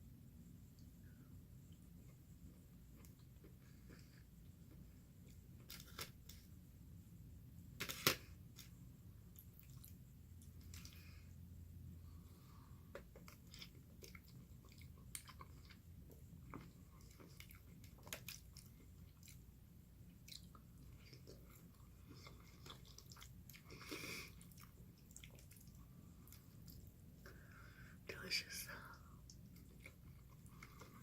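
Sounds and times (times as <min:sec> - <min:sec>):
person chewing food: 0:01.7 - 0:06.5, 0:08.5 - 0:11.2, 0:12.1 - 0:27.6, 0:29.2 - 0:31.0.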